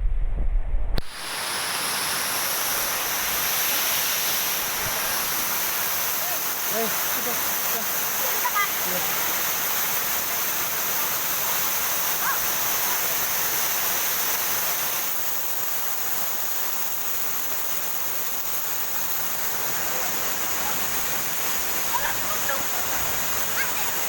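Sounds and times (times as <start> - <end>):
waterfall rushing: 1.0 - 24.0.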